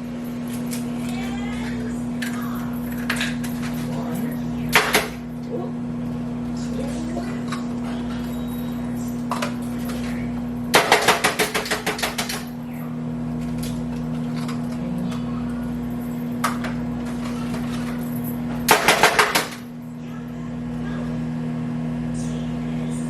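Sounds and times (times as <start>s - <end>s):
kitchen appliance hum: 0.0s - 23.0s.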